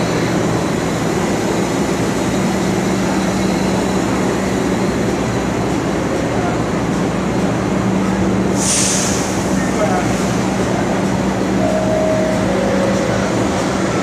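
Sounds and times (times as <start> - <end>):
subway train rumble: 0.0 - 14.0.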